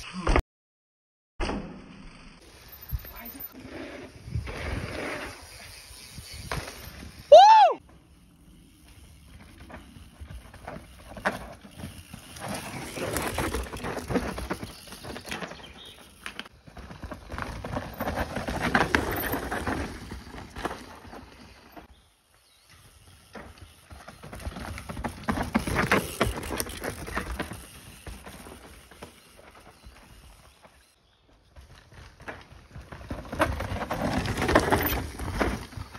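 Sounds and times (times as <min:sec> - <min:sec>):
bikes rattling over bumps: 0:02.4 - 0:35.9
tyres crunching through loose dirt: 0:02.4 - 0:35.9.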